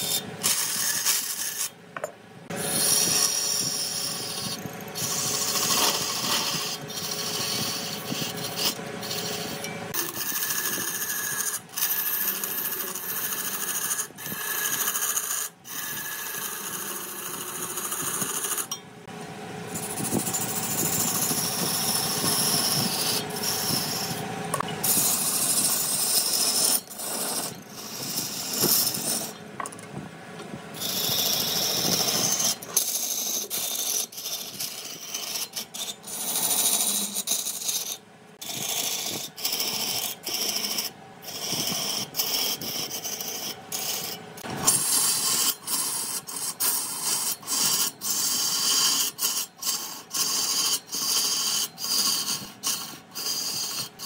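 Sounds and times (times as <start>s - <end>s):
hand tool scraping spinning wood: 0.0s - 18.8s, 19.7s - 29.7s, 30.8s - 54.0s.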